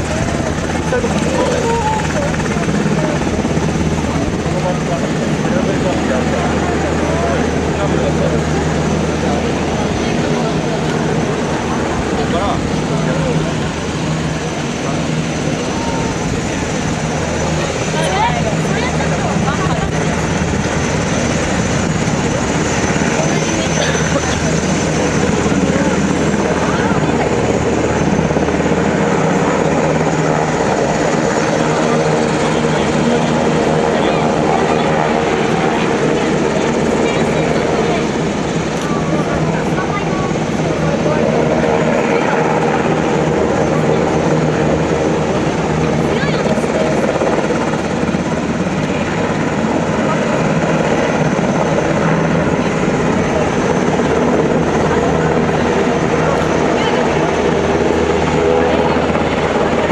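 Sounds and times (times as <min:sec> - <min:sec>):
helicopter engine drone: 0:00.0 - 0:59.9
helicopter rotor chop: 0:00.0 - 0:59.9.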